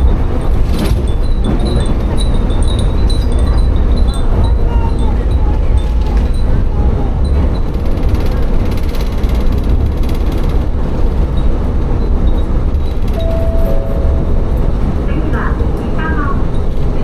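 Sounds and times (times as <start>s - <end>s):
railcar engine and wheels rumbling: 0.0s - 17.0s.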